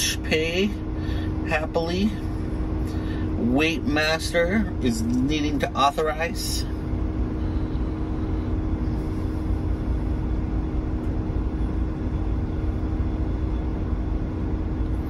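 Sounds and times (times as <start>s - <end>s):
van engine idling: 0.0s - 15.0s.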